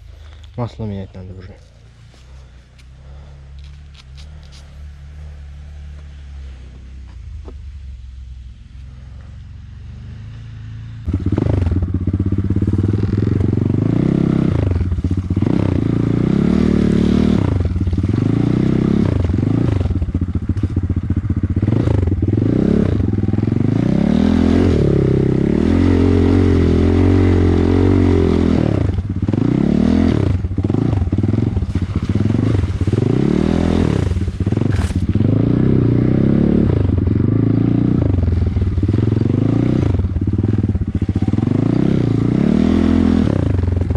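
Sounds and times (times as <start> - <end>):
off-road vehicle engine revving: 0.0 - 43.9.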